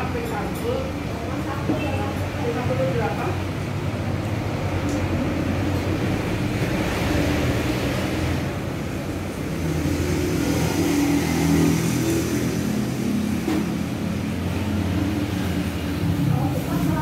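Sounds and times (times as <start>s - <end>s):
road traffic engine rumble: 0.0s - 17.0s.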